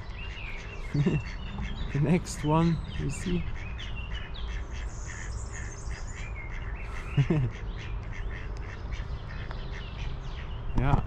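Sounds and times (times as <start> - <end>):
low outdoor rumble: 0.0 - 11.0
small birds chirping: 0.0 - 11.0
duck quacking: 0.6 - 10.1.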